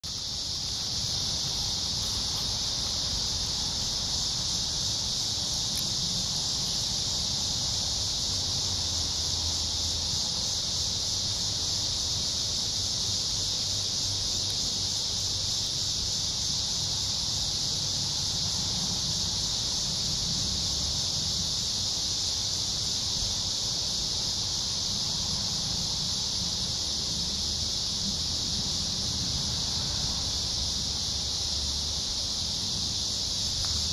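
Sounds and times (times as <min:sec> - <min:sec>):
insect chorus drone: 0:00.0 - 0:33.9.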